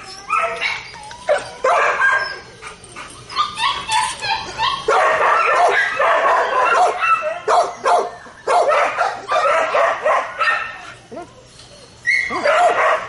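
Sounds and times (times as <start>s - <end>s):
dog barking and yipping: 0.3s - 2.5s, 3.2s - 11.3s, 12.1s - 13.0s.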